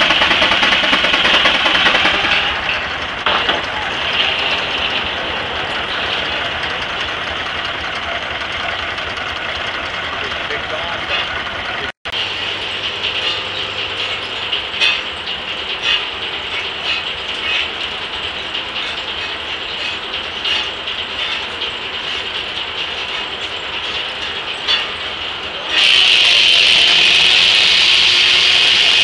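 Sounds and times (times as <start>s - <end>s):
sawmill clatter of gearing: 0.0s - 27.7s.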